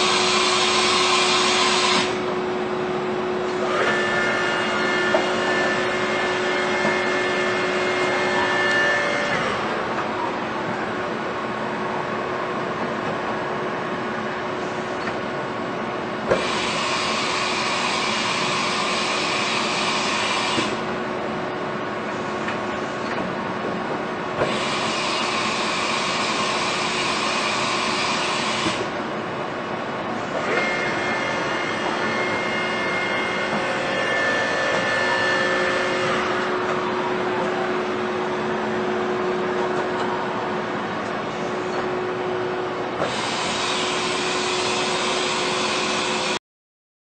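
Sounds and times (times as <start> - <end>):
hissing machine noise: 0.0 - 15.2, 16.2 - 21.2, 24.3 - 46.4
high steady whines: 0.0 - 46.4
machining center humming: 0.0 - 46.4.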